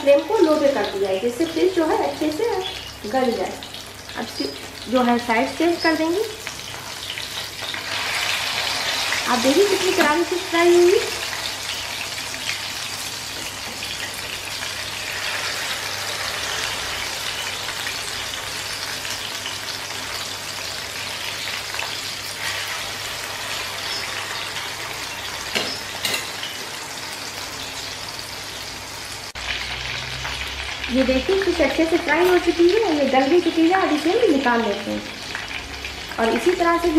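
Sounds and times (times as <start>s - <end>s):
fish sizzling in hot oil: 0.0s - 36.9s.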